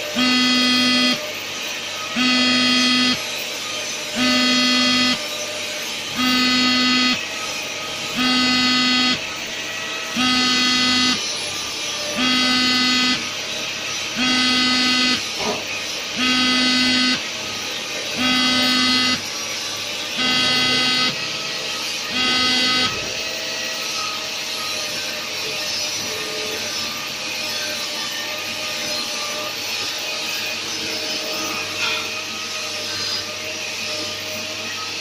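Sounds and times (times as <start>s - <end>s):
alarm buzzer: 0.0s - 31.8s.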